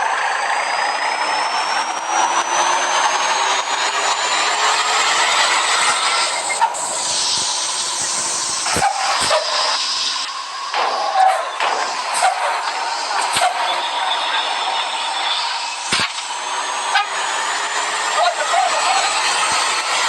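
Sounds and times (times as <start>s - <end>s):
bus engine under load: 0.0s - 20.0s
rising whine: 0.0s - 20.0s
hissing: 3.5s - 20.0s.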